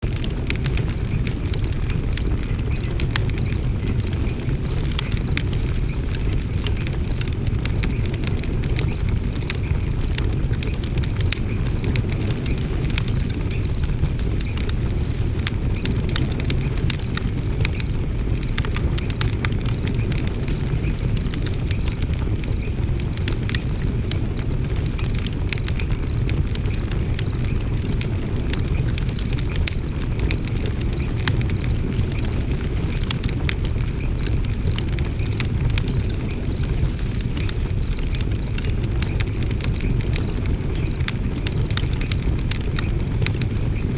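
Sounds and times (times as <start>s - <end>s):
fire rumbling and crackling: 0.0s - 43.9s.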